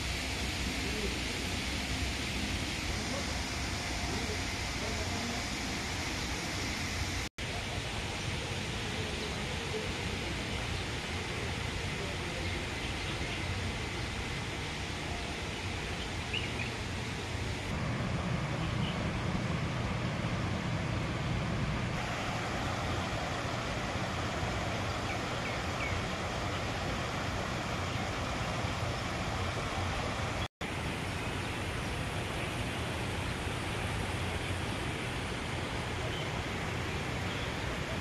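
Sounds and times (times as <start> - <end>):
steady rushing hiss: 0.0 - 38.0.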